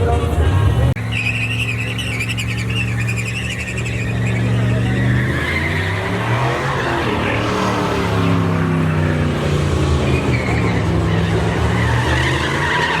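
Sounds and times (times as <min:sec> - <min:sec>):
tires squealing on pavement: 0:00.0 - 0:13.0
truck engine revving high: 0:00.0 - 0:13.0.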